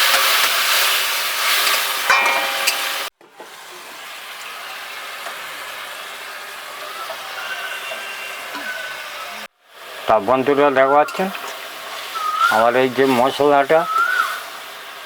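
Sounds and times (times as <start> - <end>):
spice paste sizzling in oil: 0.0 - 15.0.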